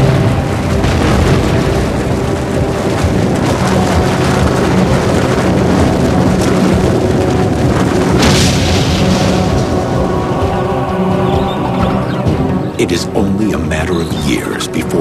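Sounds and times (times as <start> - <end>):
dramatic music score: 0.0 - 15.0
skyscraper collapsing rumble: 0.0 - 15.0.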